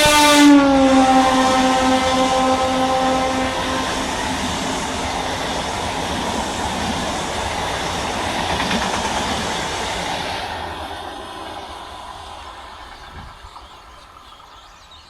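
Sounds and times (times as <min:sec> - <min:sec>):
train passing at high speed: 0:00.0 - 0:15.0.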